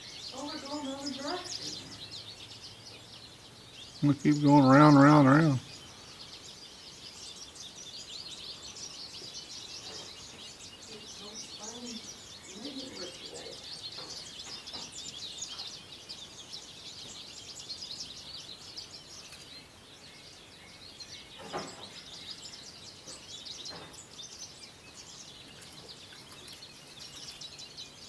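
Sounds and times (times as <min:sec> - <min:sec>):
many small birds chirping: 0:00.0 - 0:28.0.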